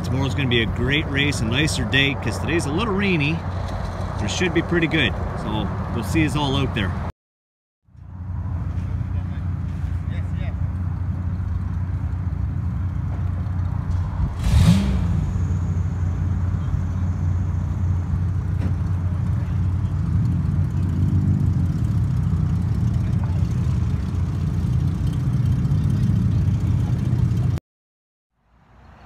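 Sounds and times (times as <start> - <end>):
car engines rumbling: 0.0 - 7.1, 7.9 - 27.6.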